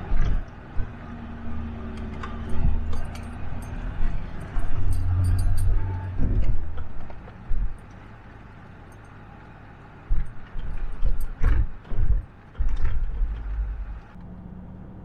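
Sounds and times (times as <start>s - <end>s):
truck thumping and rattling: 0.0s - 8.0s, 10.1s - 14.2s.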